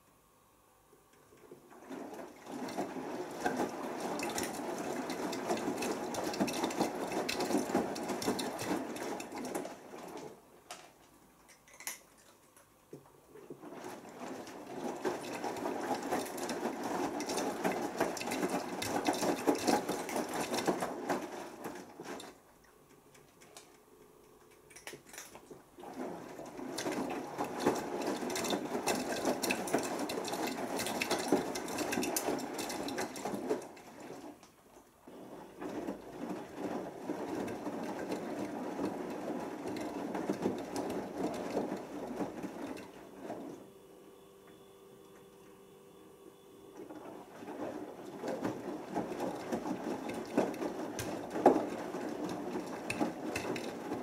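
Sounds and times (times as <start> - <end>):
washing machine drum motor: 1.2 - 10.7, 13.0 - 24.3, 25.4 - 54.0.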